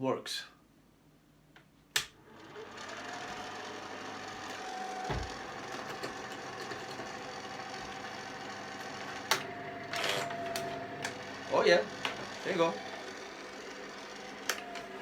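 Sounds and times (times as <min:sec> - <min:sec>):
projector cooling fan whine: 0:02.7 - 0:15.0.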